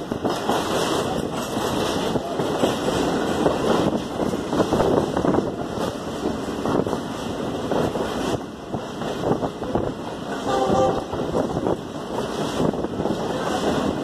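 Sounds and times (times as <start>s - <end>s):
train wheels clattering on rails: 0.0s - 14.0s
wind rushing on microphone: 0.0s - 14.0s.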